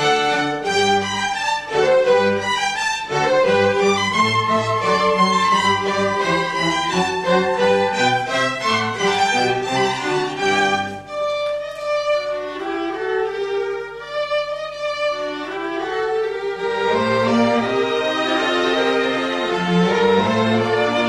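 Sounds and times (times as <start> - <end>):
violin melody with accompaniment: 0.0 - 21.0.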